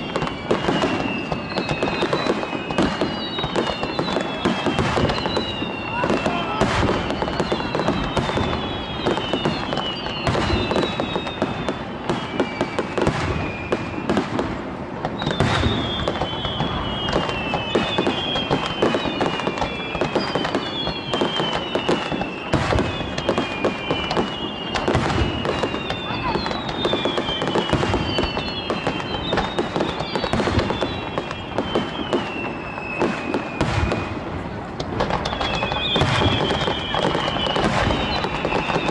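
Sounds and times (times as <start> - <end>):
falling firework whistles: 0.0 - 38.9
firework bangs and crackling: 0.0 - 38.9.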